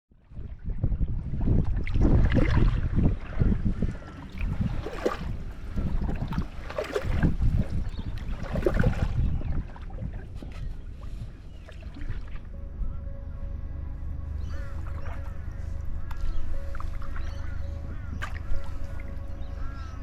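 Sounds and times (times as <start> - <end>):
low rumble: 0.2 - 20.0
kayak paddle splashing in water: 1.6 - 12.5, 14.6 - 19.9.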